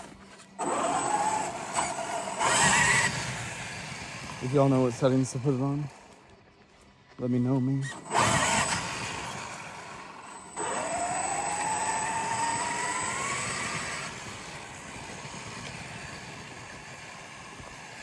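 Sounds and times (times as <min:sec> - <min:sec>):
rc truck electric motor whining: 0:00.0 - 0:06.2, 0:07.8 - 0:18.0.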